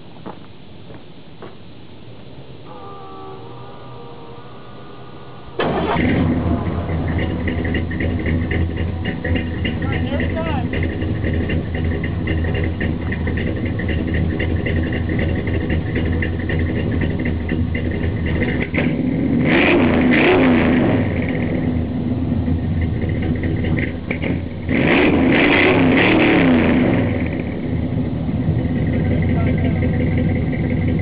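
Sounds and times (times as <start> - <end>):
engine idling: 0.0 - 31.0
engine throttle blips: 0.6 - 31.0.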